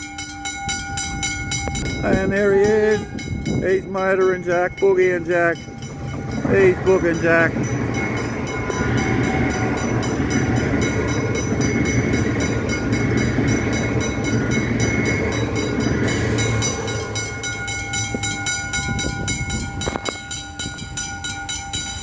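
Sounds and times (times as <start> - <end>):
train traction whine: 0.0 - 22.0
train wheel and rail rumble: 0.0 - 22.0
train wheels clicking: 0.0 - 22.0.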